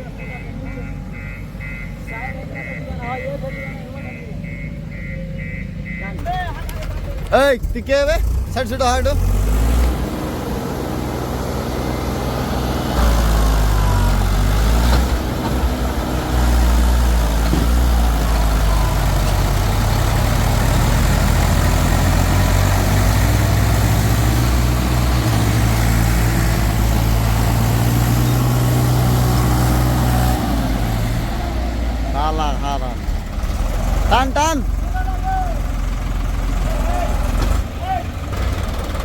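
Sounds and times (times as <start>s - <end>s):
tractor engines under load: 0.0s - 39.0s.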